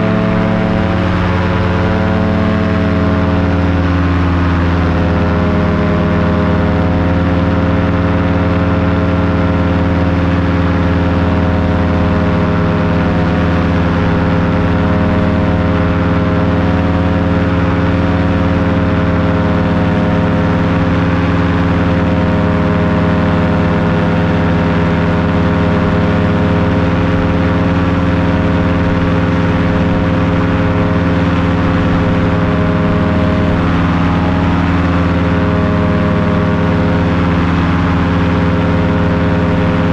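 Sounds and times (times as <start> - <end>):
engine droning hum: 0.0 - 39.9.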